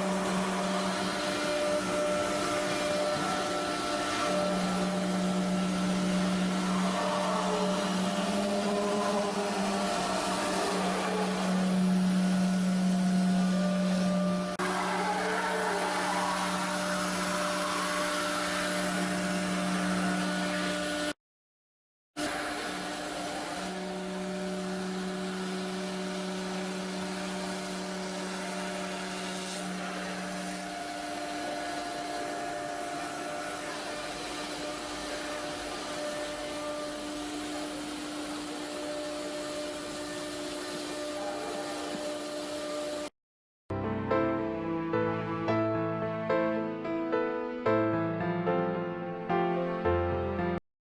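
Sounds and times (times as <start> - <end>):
router spindle whining: 0.0 - 21.2, 22.2 - 43.1.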